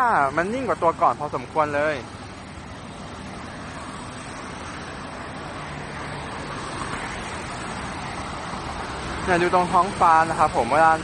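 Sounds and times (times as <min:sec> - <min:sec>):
road noise from passing cars: 0:00.0 - 0:11.0.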